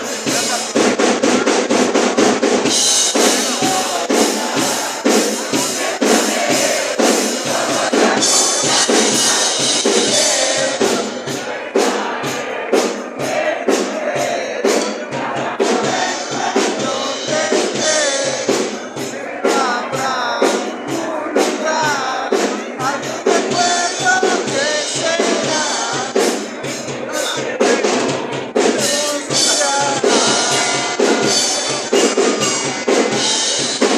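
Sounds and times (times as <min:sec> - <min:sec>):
drum-kit beat: 0:00.0 - 0:33.9.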